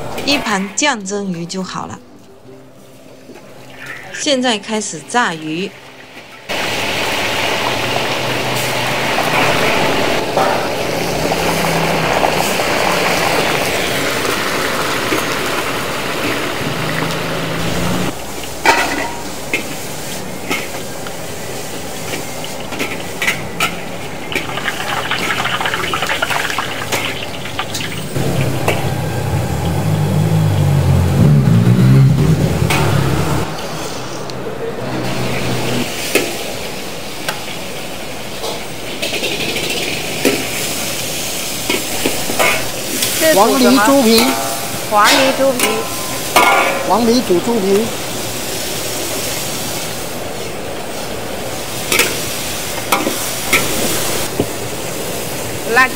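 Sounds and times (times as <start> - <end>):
fish deep-frying in oil: 3.4 - 28.9, 34.8 - 55.9.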